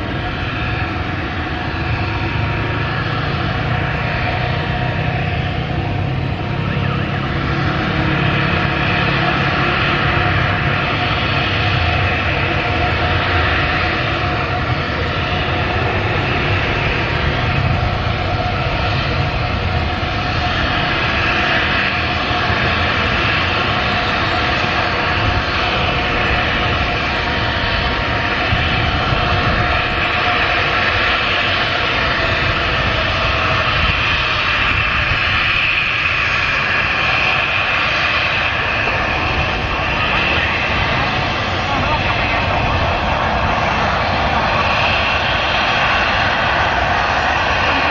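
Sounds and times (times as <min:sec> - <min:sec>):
jet engines roaring: 0:00.0 - 0:47.9
steady engine whine: 0:00.0 - 0:47.9.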